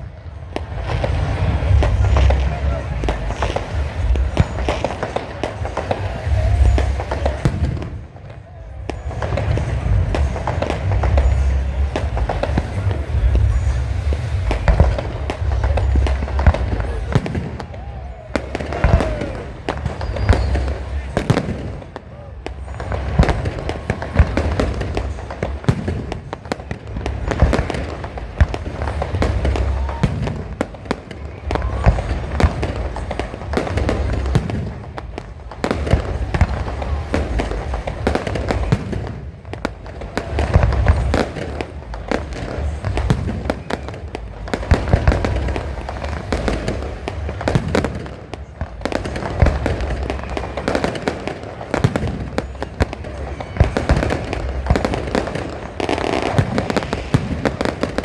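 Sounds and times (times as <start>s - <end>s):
deep fireworks booms: 0.0s - 58.0s
fireworks bangs and crackles: 0.0s - 58.0s.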